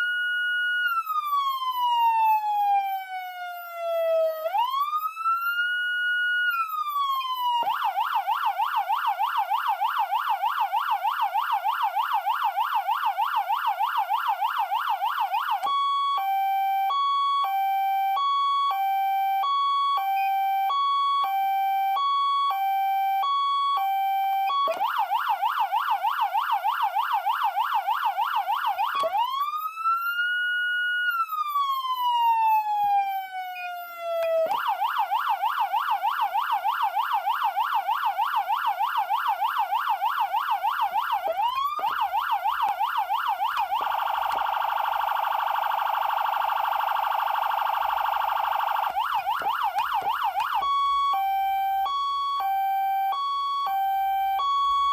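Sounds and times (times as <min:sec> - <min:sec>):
electronic siren cycling tones: 0:00.0 - 0:54.9.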